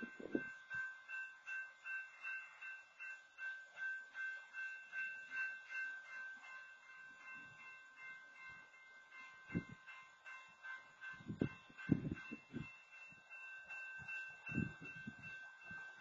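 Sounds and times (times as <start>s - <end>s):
railroad crossing bell ringing: 0.0s - 16.0s.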